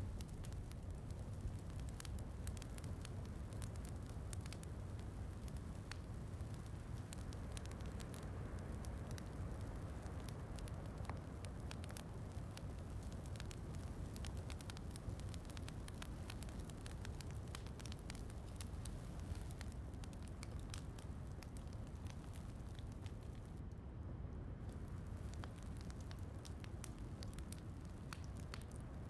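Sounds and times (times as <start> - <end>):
wood fire crackling: 0.0 - 23.8, 24.6 - 29.0.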